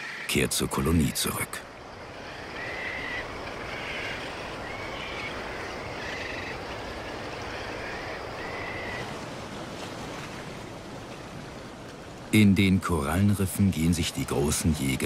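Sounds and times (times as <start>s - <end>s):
surf rushing: 0.0s - 15.0s.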